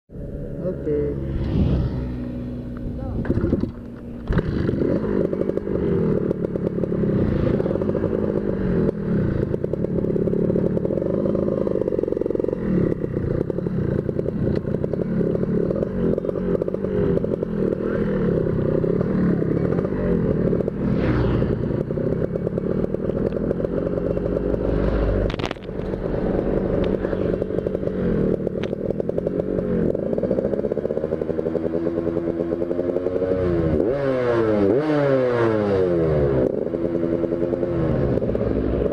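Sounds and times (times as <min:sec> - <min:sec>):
motorcycle engine revving: 0:00.1 - 0:38.9.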